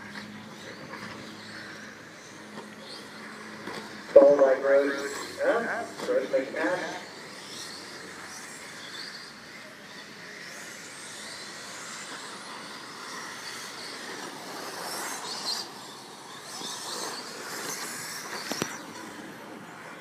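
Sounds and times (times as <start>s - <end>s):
rc truck motors whining: 0.0s - 20.0s.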